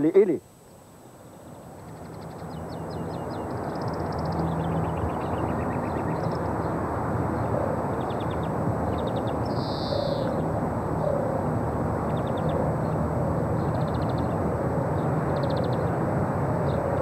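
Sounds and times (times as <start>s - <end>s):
birds chirping: 0.0s - 17.0s
steady low drone: 1.4s - 17.0s
wind noise: 1.4s - 17.0s.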